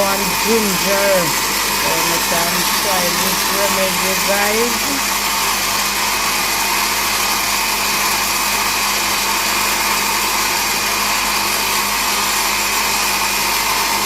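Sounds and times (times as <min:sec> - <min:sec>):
blender motor running: 0:00.0 - 0:14.0.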